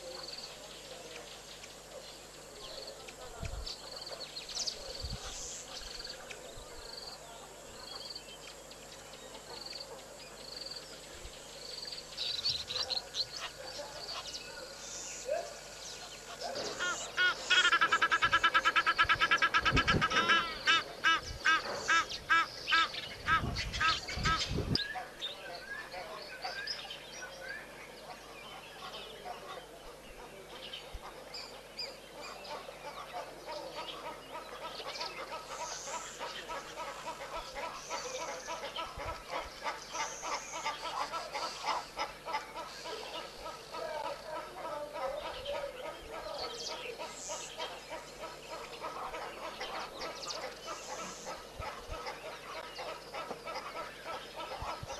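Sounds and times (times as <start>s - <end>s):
small birds chirping: 0.0s - 19.3s, 20.0s - 54.9s.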